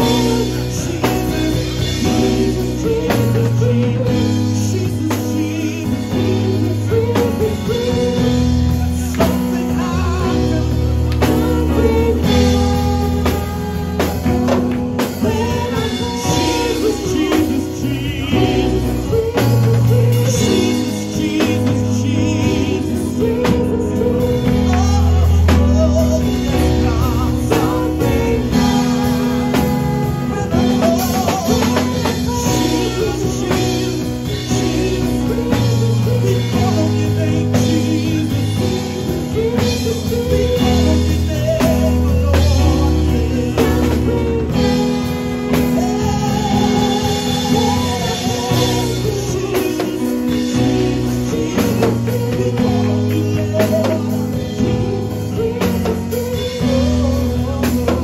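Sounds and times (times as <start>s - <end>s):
drum kit: 0.0s - 58.0s
keyboard playing: 0.0s - 58.0s
man singing into a microphone: 0.0s - 58.0s.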